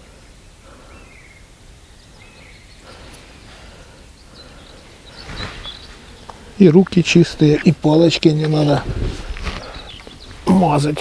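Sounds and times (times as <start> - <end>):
faint bird calls: 0.0 - 7.8, 8.5 - 10.9
low background hiss: 0.0 - 11.0.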